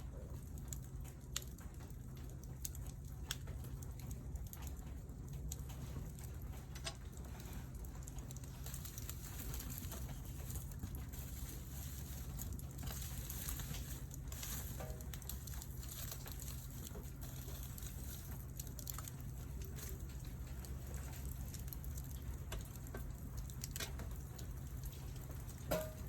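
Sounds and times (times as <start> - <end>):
campfire crackling and popping: 0.0 - 26.0
low fire rumble: 0.0 - 26.0.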